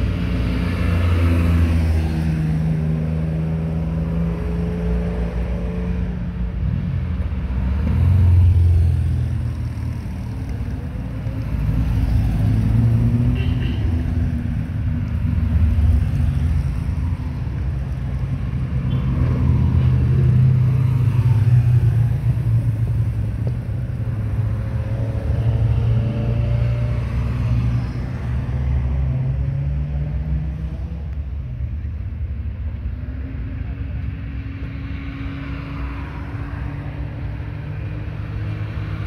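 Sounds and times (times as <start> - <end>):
cars driving past slowly: 0.0 - 39.0.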